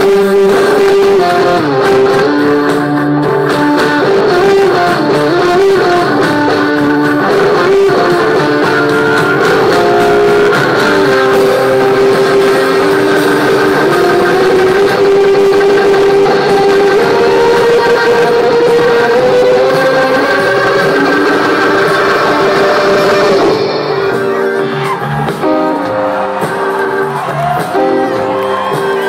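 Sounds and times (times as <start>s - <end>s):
electric guitar sliding notes: 0.0s - 29.0s
live rock band playing: 0.0s - 29.0s.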